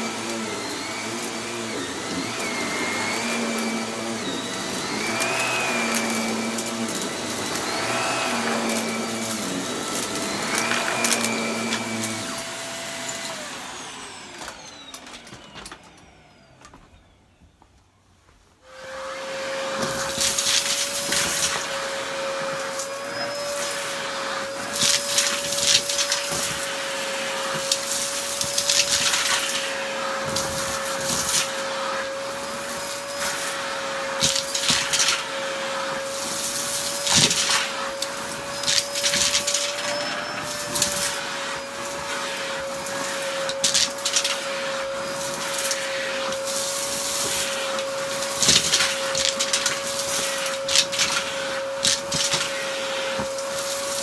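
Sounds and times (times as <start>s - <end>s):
vacuum cleaner motor whine: 0.0s - 17.7s, 18.6s - 54.0s.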